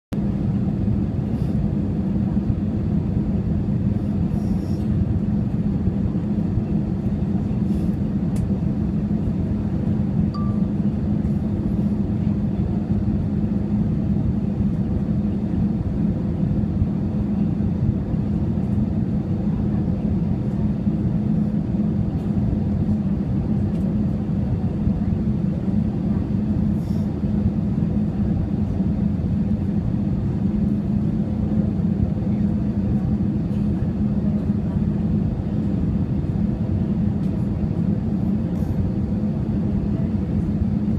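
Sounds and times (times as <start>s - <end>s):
jet engine rumble in cabin: 0.1s - 40.9s
airflow over fuselage: 0.2s - 40.9s.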